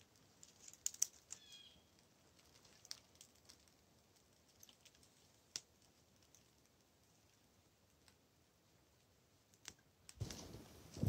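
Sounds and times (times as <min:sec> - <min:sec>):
crackling kindling fire: 0:00.0 - 0:11.0.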